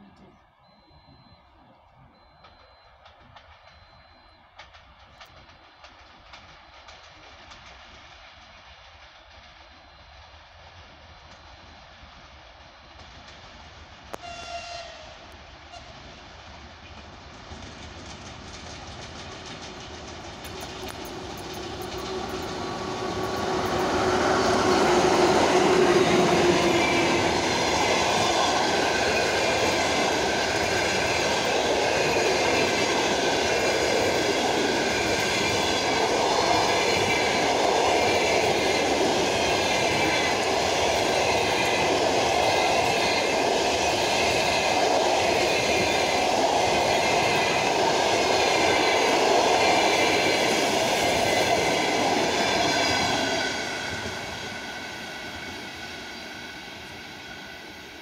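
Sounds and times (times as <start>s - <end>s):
electric locomotive hum: 0.0s - 58.0s
train wheels clattering on rail: 2.1s - 58.0s.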